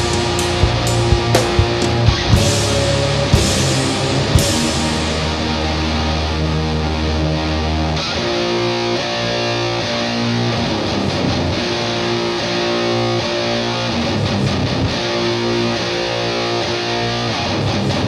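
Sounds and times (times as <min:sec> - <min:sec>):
bass guitar: 0:00.0 - 0:18.0
electric guitar chords: 0:00.0 - 0:18.0.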